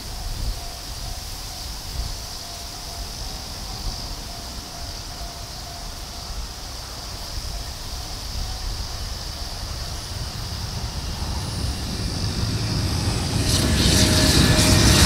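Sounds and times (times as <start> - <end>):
distant freight train rumble: 0.0 - 15.0
high-pitched insect drone: 0.0 - 15.0.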